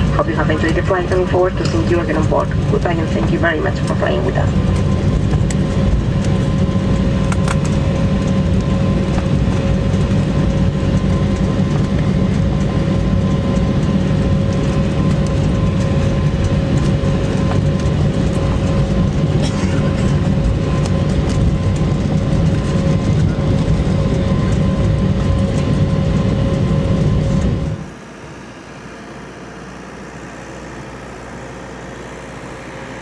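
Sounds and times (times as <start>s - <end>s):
low rumble of aircraft engines: 0.0s - 33.0s
steady hum: 0.0s - 33.0s.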